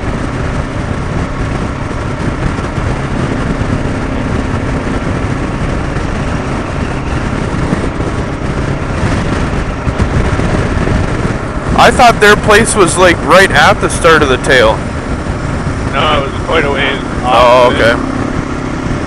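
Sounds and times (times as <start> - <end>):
motorcycle engine: 0.0 - 19.0
road and wind noise: 0.0 - 19.0.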